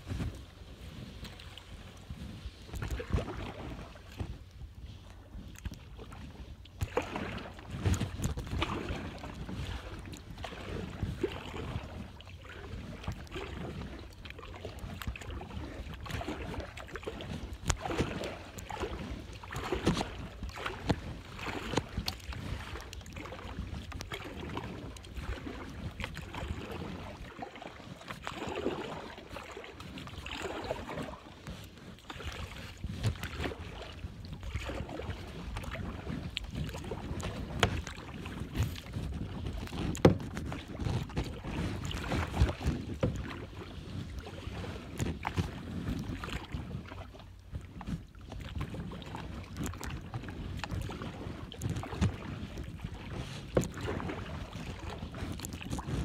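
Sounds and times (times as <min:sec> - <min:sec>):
kayak paddle splashing in water: 0:00.0 - 0:56.0
wind rumble on microphone: 0:00.0 - 0:56.0.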